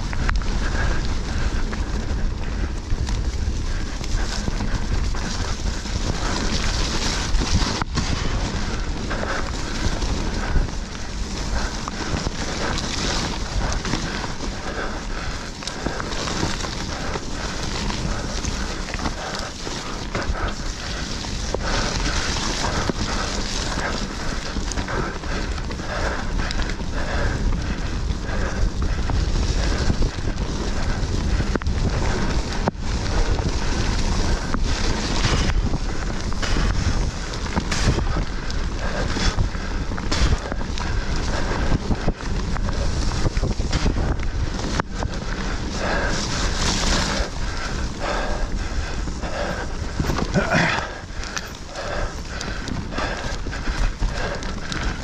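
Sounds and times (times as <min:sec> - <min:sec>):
bike knocking and rattling: 0:00.0 - 0:55.0
tyres rumbling on dirt: 0:00.0 - 0:55.0
wind buffeting microphone: 0:00.0 - 0:55.0.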